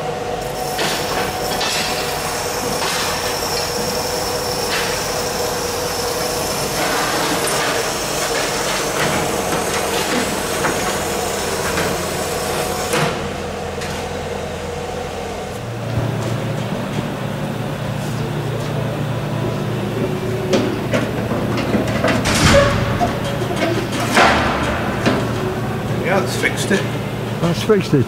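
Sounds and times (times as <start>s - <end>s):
workshop machinery humming: 0.0s - 28.0s
machinery hissing: 0.4s - 13.6s, 15.4s - 28.0s.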